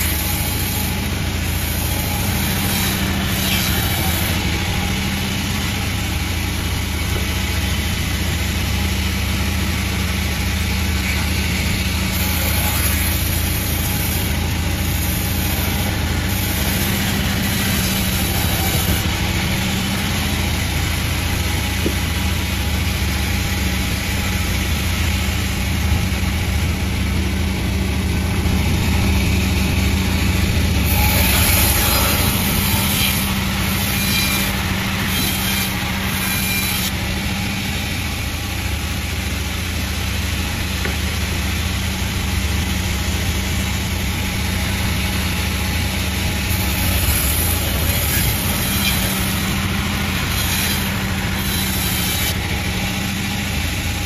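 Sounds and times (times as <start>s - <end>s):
sawmill motor drone: 0.0s - 54.0s.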